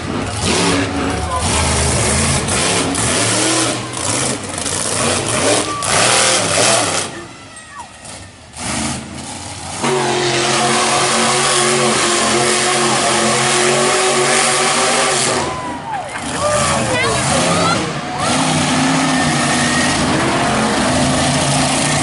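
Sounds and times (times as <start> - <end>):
racing engines: 0.0 - 22.0.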